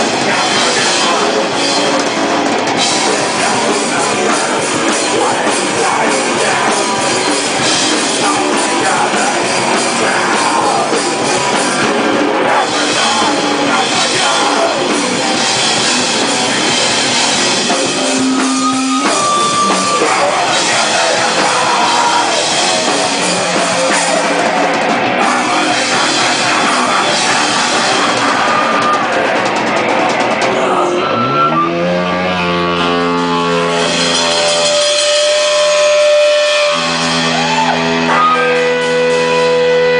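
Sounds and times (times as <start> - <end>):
distorted electric guitars: 0.0 - 39.9
drum kit: 0.0 - 39.9
rock band playing live: 0.0 - 39.9.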